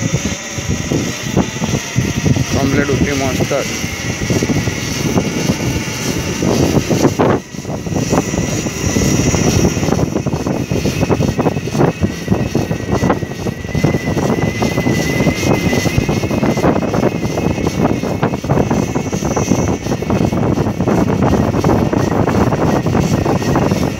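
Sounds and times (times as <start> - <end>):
thin high whine: 0.0 - 23.9
wind buffeting microphone: 0.0 - 23.9.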